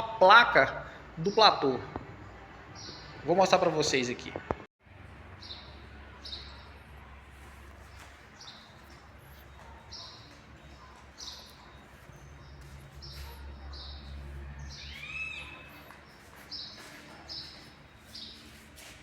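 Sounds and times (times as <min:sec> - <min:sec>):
birds chirping: 0:01.0 - 0:04.6, 0:05.2 - 0:18.8.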